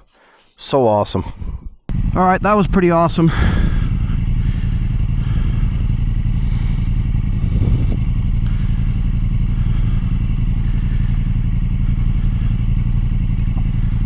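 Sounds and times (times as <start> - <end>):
motorcycle engine running: 1.9 - 14.0.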